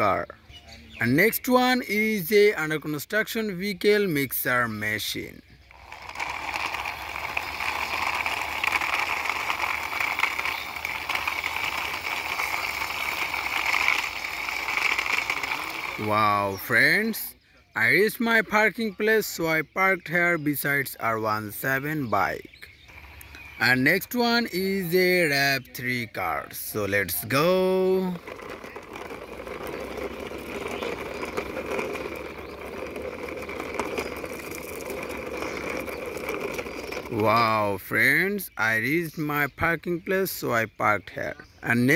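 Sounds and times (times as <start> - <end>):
toy truck rolling rattle: 1.0 - 41.9.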